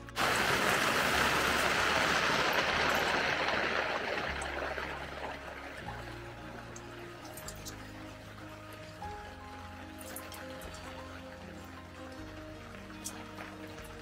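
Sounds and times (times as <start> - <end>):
heavy rain on a tarp: 0.0 - 14.0.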